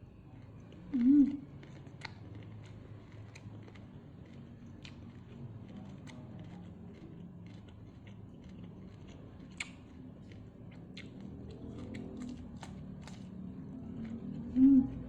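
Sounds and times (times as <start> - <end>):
chewing with wet mouth clicks: 0.0 - 15.0.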